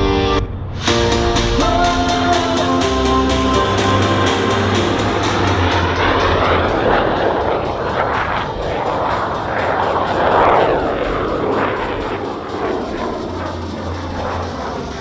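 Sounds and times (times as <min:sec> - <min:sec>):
aircraft engines roaring: 0:00.2 - 0:15.0.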